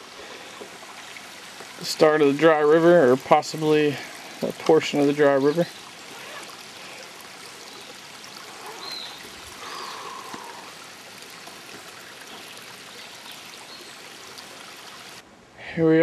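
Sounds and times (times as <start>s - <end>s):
stream running over rocks: 0.0s - 15.3s.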